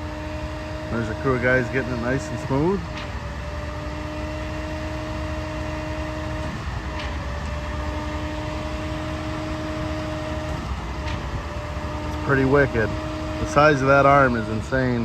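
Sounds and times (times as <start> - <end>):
heavy diesel engines running: 0.0 - 15.0.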